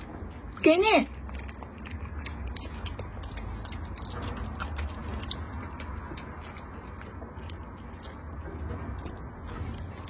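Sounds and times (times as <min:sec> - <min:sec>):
dog chewing food: 0:00.0 - 0:10.0.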